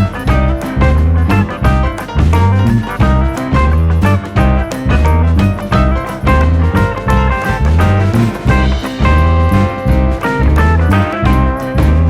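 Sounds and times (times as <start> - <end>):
upbeat guitar instrumental music: 0.0 - 12.0.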